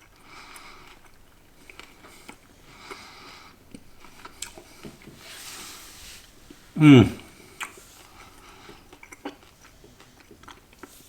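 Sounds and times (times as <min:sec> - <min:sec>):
person chewing crunchy food: 0:00.0 - 0:05.2, 0:07.0 - 0:11.0.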